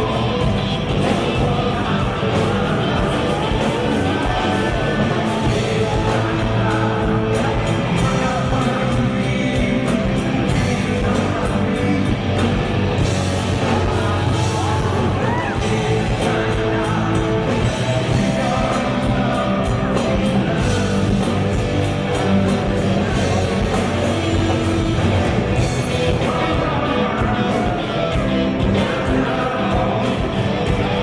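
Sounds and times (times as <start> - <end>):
drums with steady beat: 0.0 - 31.0
electric guitars: 0.0 - 31.0
man singing: 0.0 - 31.0.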